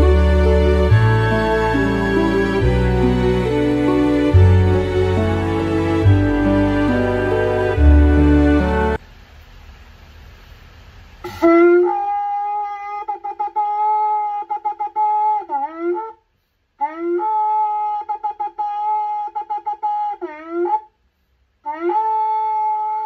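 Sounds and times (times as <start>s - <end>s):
shofar blasts: 0.0s - 9.0s, 11.3s - 16.2s, 16.8s - 20.9s, 21.6s - 23.0s.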